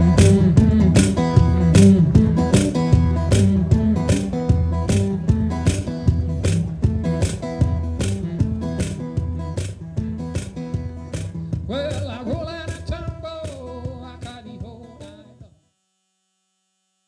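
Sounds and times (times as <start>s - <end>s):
bending wavering guitar notes: 0.0s - 15.0s
resonator guitar blues: 0.0s - 15.5s.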